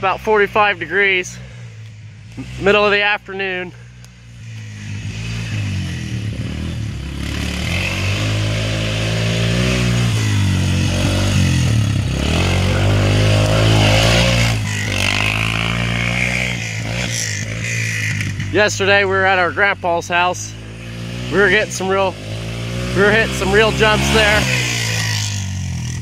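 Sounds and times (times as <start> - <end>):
quad bike engine revving: 0.0 - 26.0.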